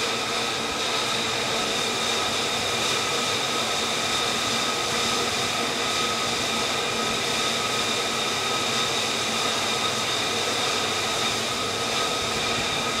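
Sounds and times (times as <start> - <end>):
jet engine idling: 0.0 - 13.0.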